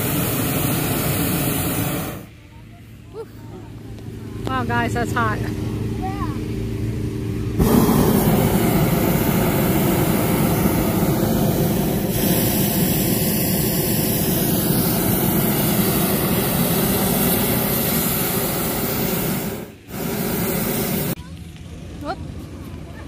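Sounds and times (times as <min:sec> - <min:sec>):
propane burner roaring: 0:00.0 - 0:21.2.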